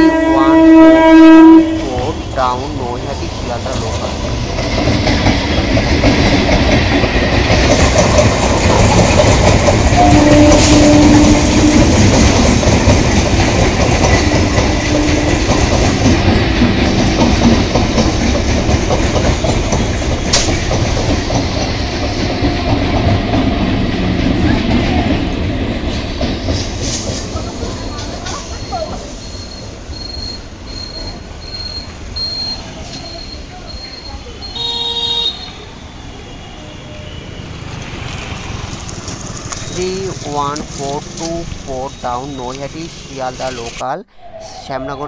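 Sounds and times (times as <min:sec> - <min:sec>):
train passing with wheel clatter: 0:00.0 - 0:45.0.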